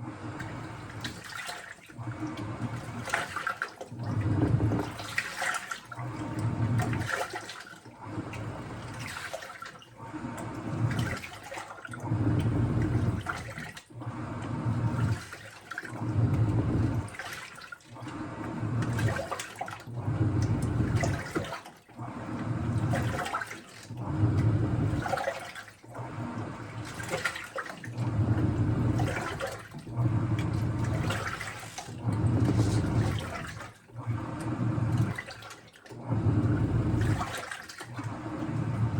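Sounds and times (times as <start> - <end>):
washing machine water sloshing: 0.0 - 38.9.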